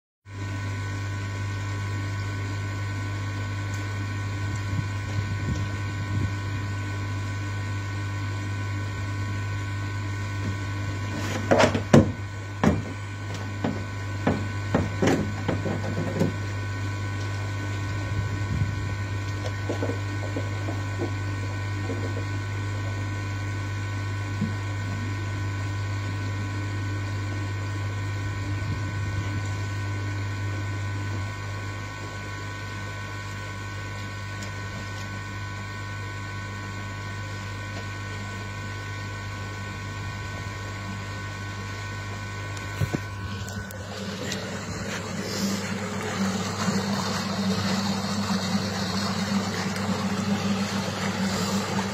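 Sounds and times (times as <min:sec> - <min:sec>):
pond filter electric hum: 0:00.3 - 0:51.9.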